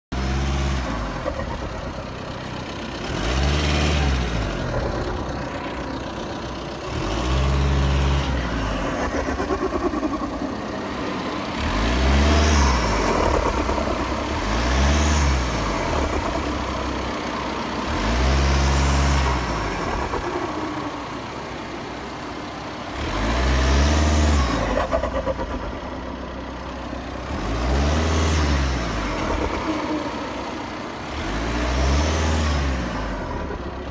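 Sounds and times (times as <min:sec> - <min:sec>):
diesel engine revving and idling: 0:00.1 - 0:33.9.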